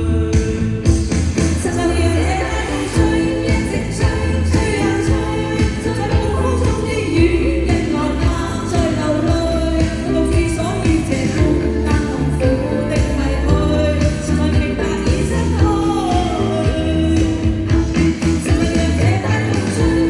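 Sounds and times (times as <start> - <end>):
pop song sung live: 0.0 - 20.0
steady drum beat: 0.0 - 20.0.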